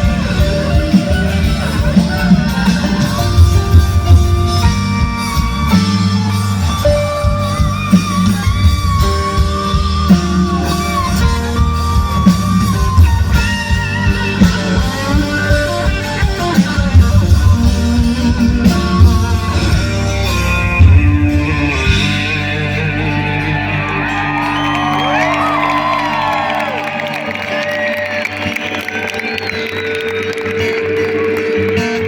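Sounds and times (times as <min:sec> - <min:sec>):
guitar melody: 0:00.0 - 0:32.0
instrumental band music: 0:00.0 - 0:32.0.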